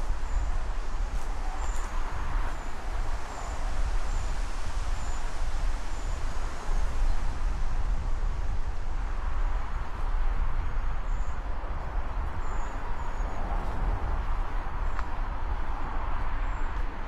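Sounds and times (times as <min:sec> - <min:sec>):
rustling leaves: 0:00.0 - 0:17.0
wind rumbling on microphone: 0:00.0 - 0:17.0.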